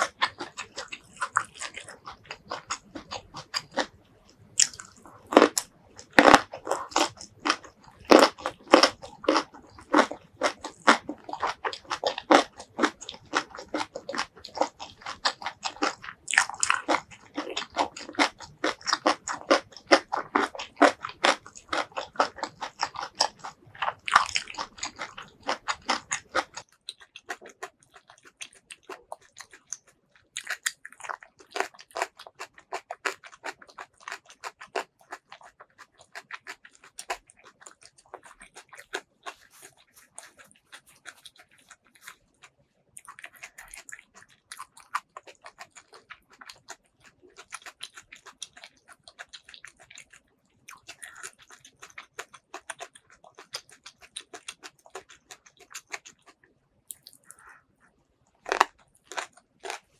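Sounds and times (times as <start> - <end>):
chewing food with wet clicks: 0.0 - 57.6, 58.2 - 59.9.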